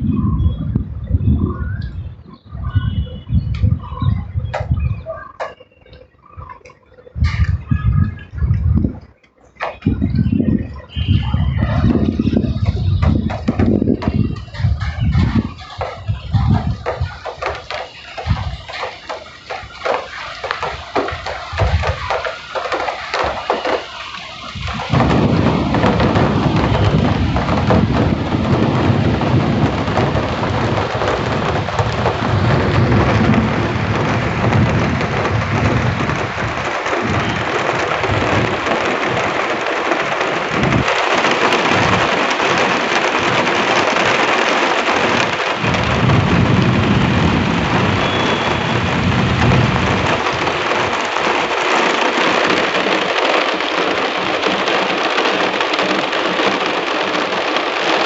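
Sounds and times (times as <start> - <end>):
heavy rain pouring: 0.0 - 58.0
thunder rumbles: 0.0 - 58.0.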